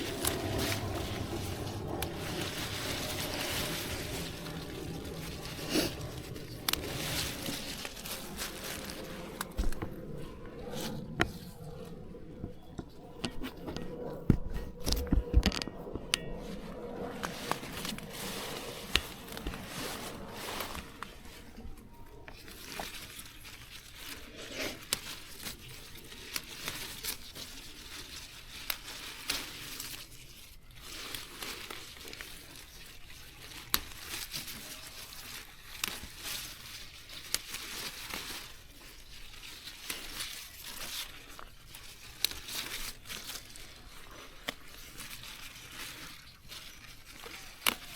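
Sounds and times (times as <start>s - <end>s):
leaves and stems rustling: 0.0s - 47.9s.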